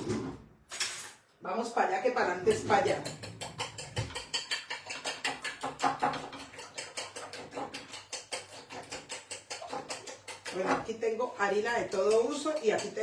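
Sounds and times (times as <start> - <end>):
fork beating eggs on plate: 2.4 - 13.0.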